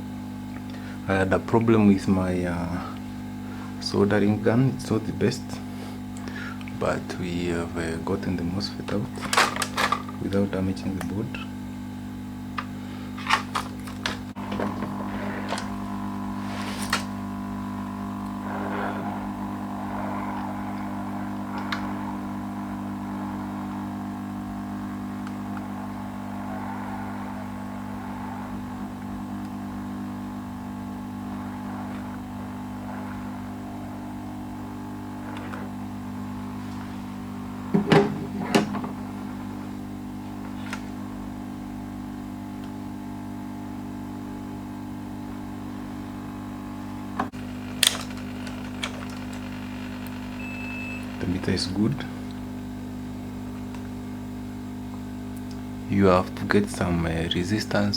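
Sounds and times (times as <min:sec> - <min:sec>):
low electrical hum: 0:00.0 - 0:57.9.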